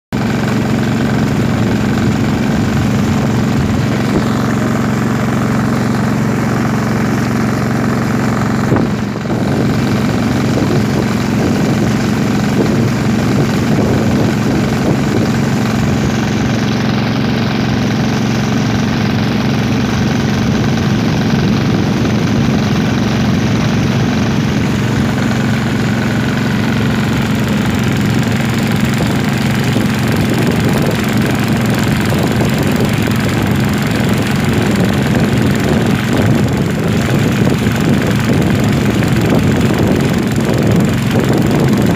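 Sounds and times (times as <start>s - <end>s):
boat engine humming: 0.1s - 41.9s.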